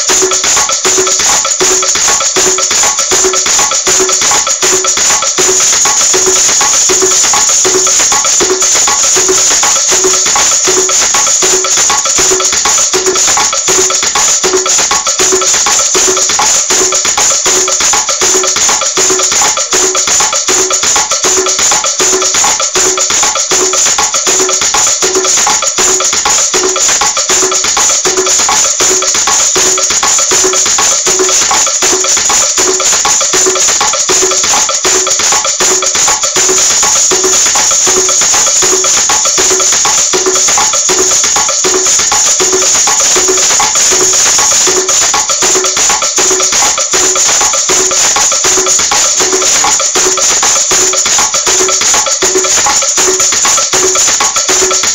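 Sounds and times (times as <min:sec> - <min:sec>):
maracas rattling: 0:00.0 - 0:54.9
pitched regular beat: 0:00.0 - 0:54.9.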